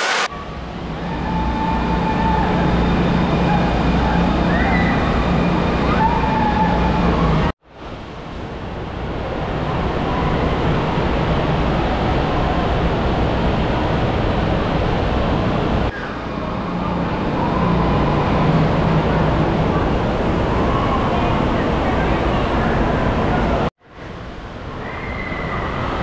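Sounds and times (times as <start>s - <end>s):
rushing water echoing indoors: 0.0s - 26.0s.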